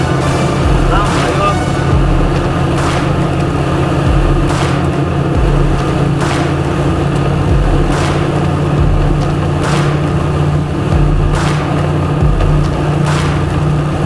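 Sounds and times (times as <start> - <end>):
rushing swoosh: 0.0 - 14.0.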